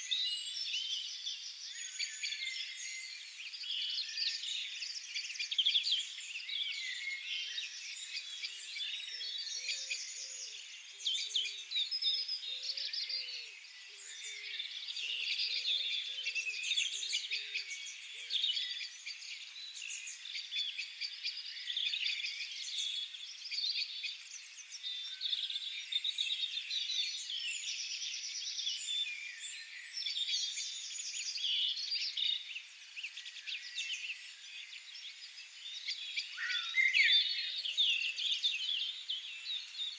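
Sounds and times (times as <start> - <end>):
chorus of small birds singing: 0.0 - 39.9.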